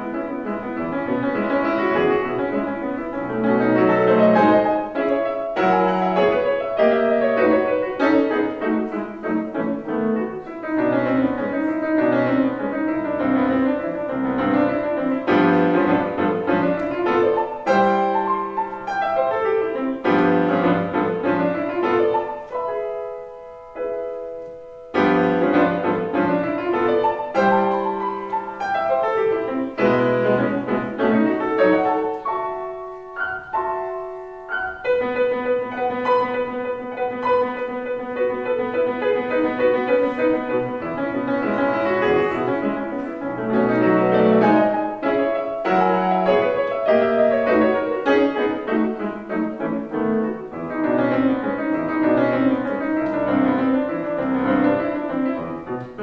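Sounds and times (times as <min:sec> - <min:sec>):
classical piano piece: 0:00.0 - 0:56.0.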